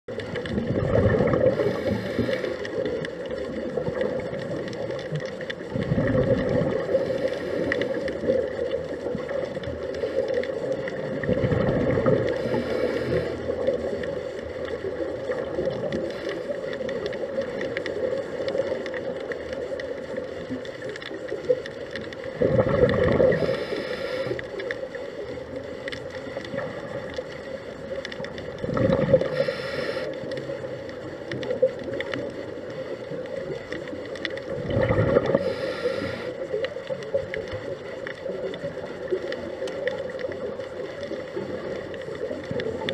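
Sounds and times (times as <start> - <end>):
regulator bubbles gushing underwater: 0.1 - 42.9.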